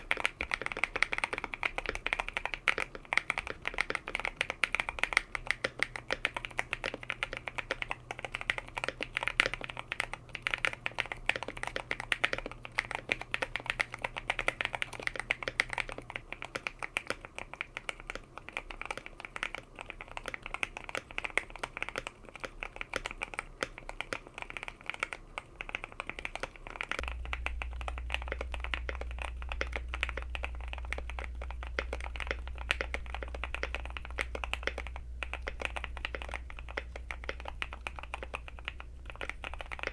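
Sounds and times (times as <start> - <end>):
faint low hum: 0.0 - 39.9
mechanical keyboard typing: 0.0 - 39.9.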